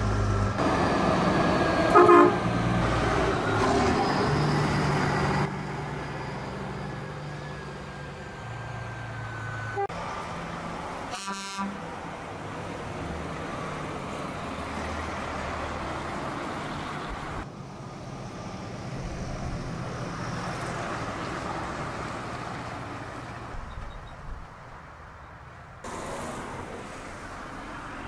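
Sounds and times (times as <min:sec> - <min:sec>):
traffic noise: 0:00.0 - 0:28.0.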